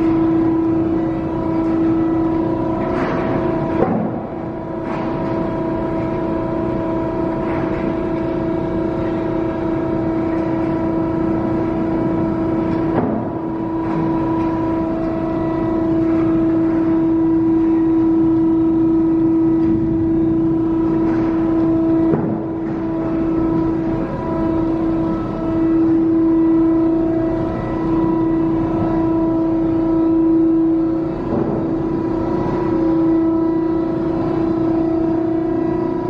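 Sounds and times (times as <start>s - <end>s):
baler machine hum and whine: 0.0s - 36.0s.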